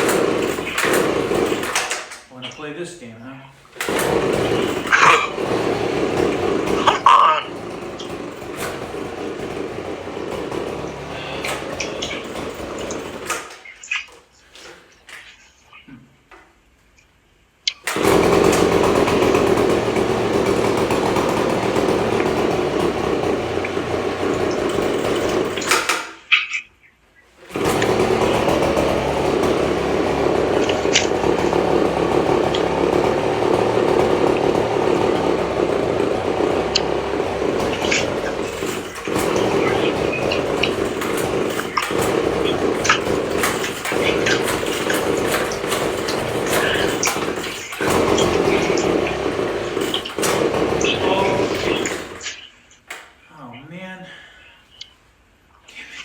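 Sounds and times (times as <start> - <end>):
leaf blower engine running: 0.0 - 2.3, 3.7 - 13.8, 17.8 - 26.2, 27.4 - 53.1.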